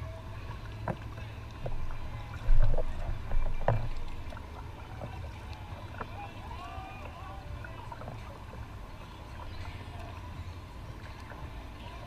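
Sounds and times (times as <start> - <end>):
water sloshing against hull: 0.0 - 12.0.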